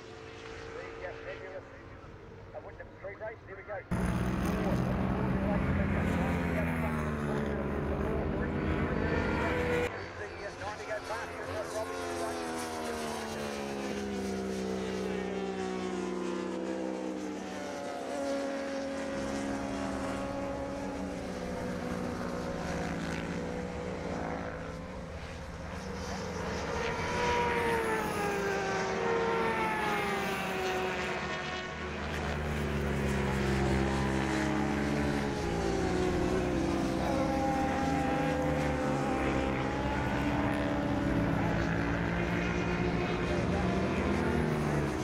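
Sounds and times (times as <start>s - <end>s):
racing motorcycles passing: 0.0s - 2.6s, 3.8s - 45.0s.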